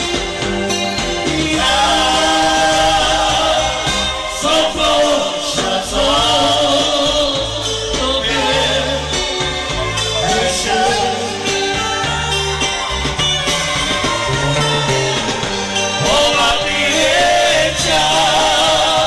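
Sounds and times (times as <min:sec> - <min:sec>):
backing music with bass line: 0:00.0 - 0:19.0
men singing into microphones: 0:01.0 - 0:12.4, 0:14.0 - 0:19.0.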